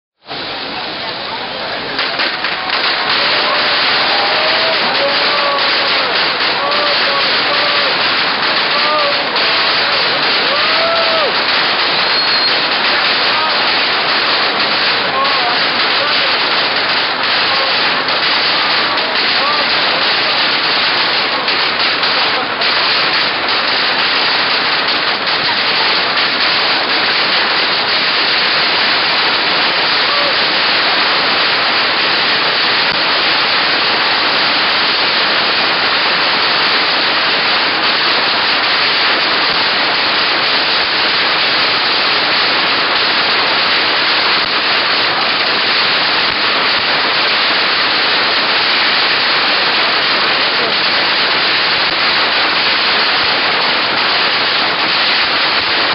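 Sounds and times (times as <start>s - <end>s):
firecrackers crackling: 0.2s - 55.9s.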